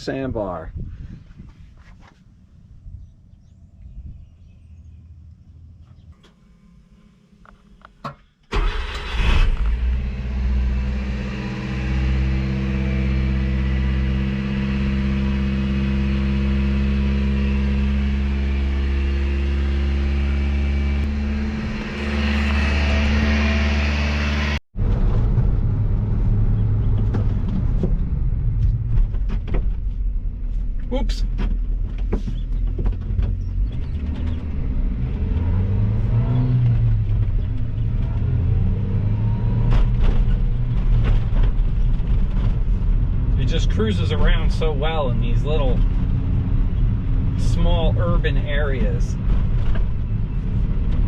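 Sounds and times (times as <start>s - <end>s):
truck engine and road noise: 0.0s - 51.0s.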